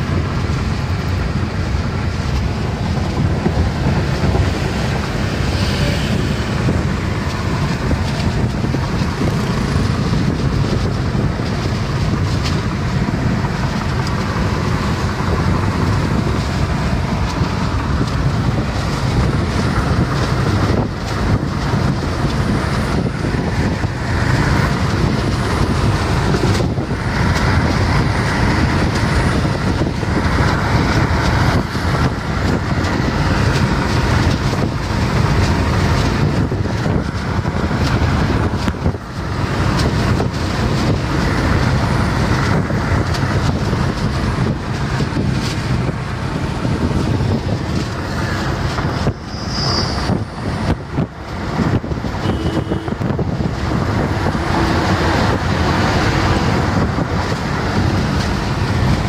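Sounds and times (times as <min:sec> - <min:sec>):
car engine running: 0:00.0 - 0:49.4, 0:50.0 - 0:59.0
road and wind noise: 0:00.0 - 0:59.0.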